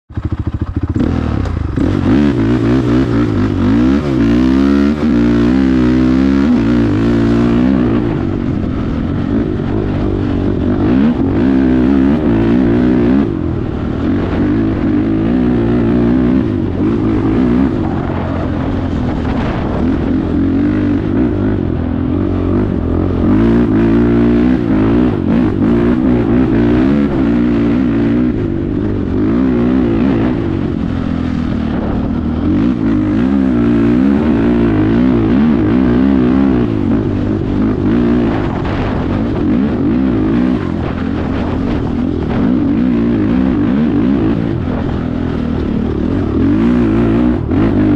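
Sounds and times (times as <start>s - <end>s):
quad engine revving: 0.1s - 47.9s.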